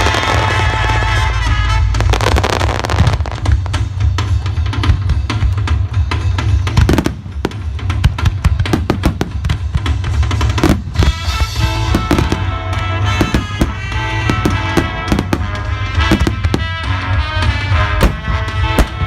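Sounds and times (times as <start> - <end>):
fireworks bangs and crackles: 0.0 - 19.0
music with steady bass: 0.0 - 19.0.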